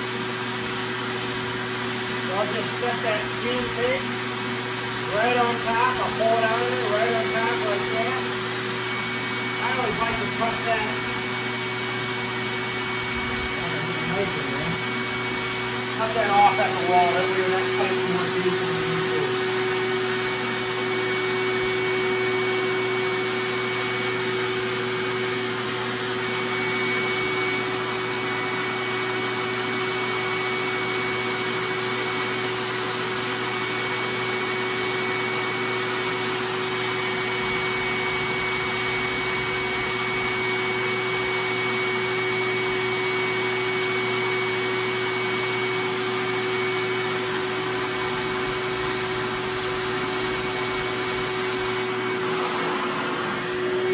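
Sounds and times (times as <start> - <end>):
motor hum with low whine: 0.0 - 33.7, 34.3 - 53.9.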